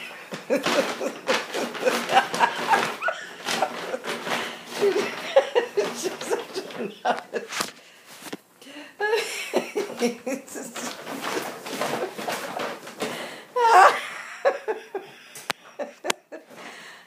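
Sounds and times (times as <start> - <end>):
woman laughing hard: 0.0 - 7.7, 9.0 - 12.7, 13.6 - 16.6.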